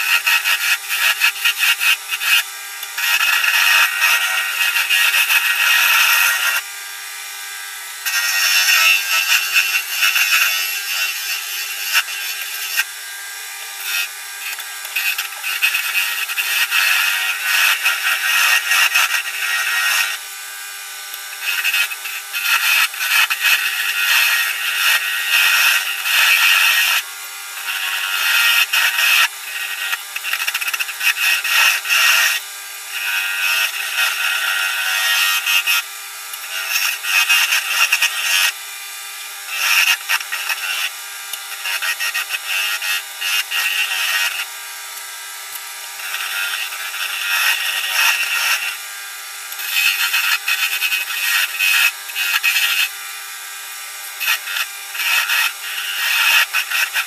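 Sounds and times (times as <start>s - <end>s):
turning tool scraping wood: 0.0s - 6.7s, 7.9s - 38.6s, 39.5s - 44.5s, 45.5s - 48.8s, 49.5s - 53.0s, 54.0s - 57.0s
wood lathe spinning: 0.0s - 57.0s.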